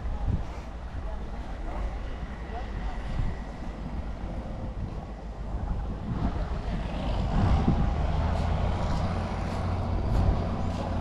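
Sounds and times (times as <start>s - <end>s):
boat engine rumbling: 0.0s - 11.0s
wind buffeting microphone: 0.0s - 11.0s.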